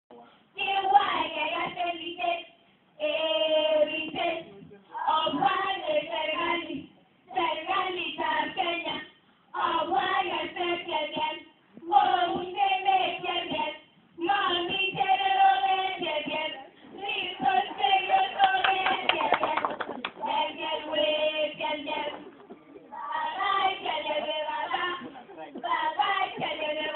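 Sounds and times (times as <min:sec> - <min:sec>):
girls chanting melodically: 0:00.6 - 0:22.2, 0:22.9 - 0:26.9.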